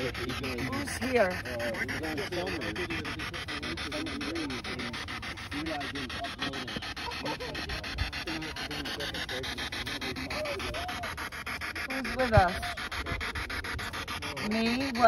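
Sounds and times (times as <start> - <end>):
radio static sweeping: 0.0 - 15.0.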